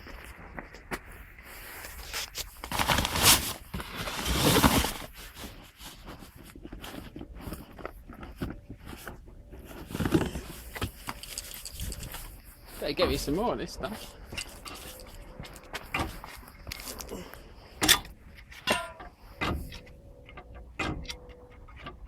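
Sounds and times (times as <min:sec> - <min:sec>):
scraping and handling noises: 0:00.0 - 0:22.0.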